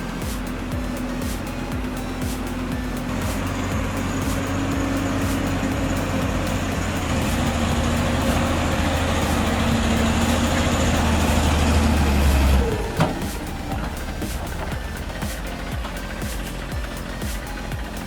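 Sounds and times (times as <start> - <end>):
truck diesel engine droning: 0.0 - 18.0.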